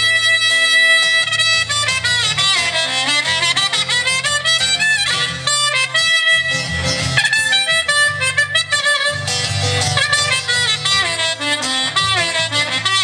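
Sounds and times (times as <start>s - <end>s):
steady bass line: 0.0s - 13.0s
wind instrument with bending notes: 0.0s - 13.0s.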